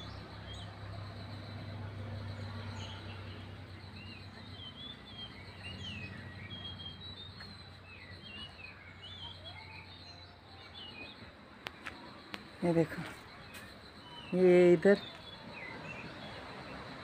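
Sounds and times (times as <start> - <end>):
high insect trill: 0.0 - 17.0
small birds chirping: 0.0 - 17.0.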